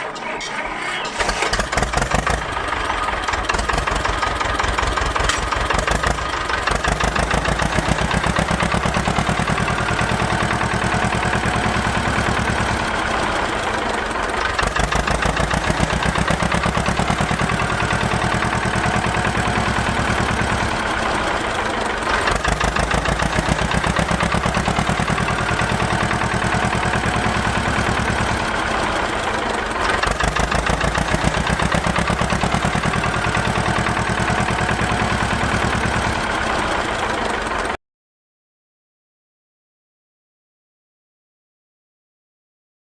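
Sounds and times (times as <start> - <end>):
small engine chugging: 0.0 - 37.8.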